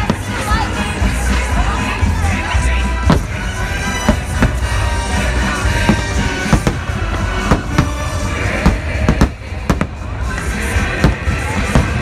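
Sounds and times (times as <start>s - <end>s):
music over loudspeakers: 0.0s - 12.0s.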